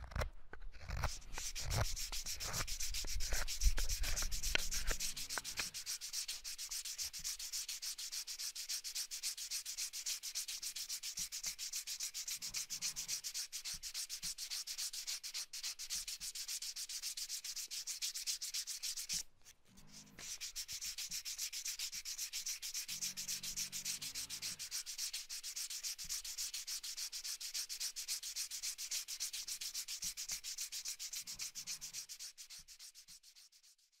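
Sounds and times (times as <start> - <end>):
hand sanding wood: 0.8 - 34.0.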